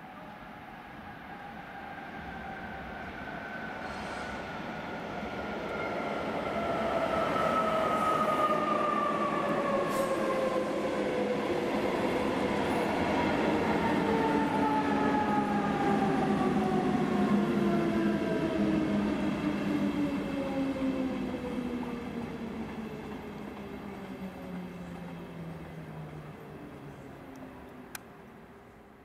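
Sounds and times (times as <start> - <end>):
train wheels rumbling on rail: 2.5 - 28.0.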